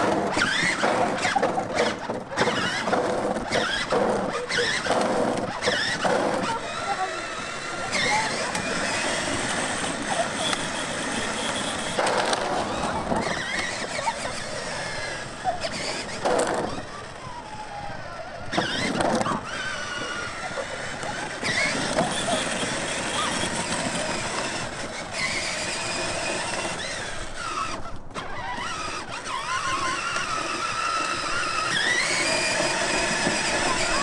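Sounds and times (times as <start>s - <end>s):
ride-on toy electric motor whining: 0.0s - 34.0s.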